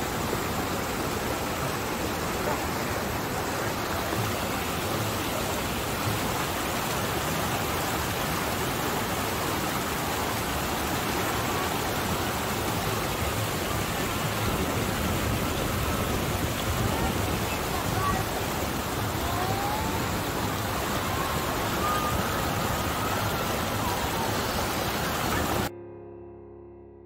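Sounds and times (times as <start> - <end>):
waterfall and rapids rushing: 0.0 - 25.7.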